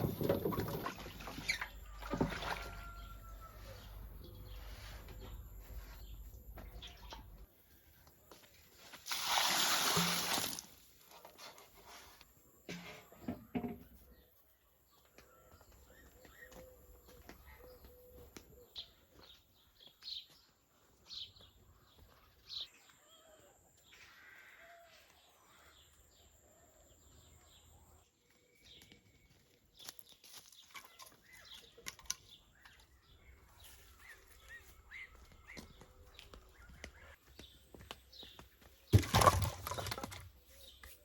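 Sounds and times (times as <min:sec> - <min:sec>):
faint rural ambience: 0:00.0 - 0:41.0.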